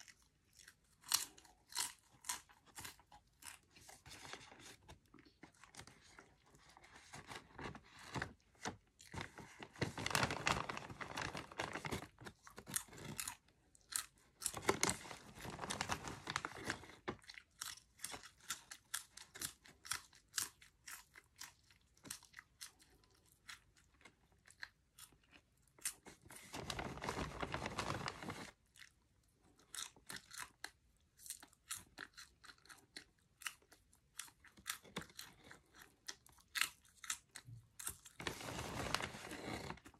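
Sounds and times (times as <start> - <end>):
chewing crunchy popcorn: 0.0 - 7.1, 10.7 - 26.5, 28.5 - 38.2.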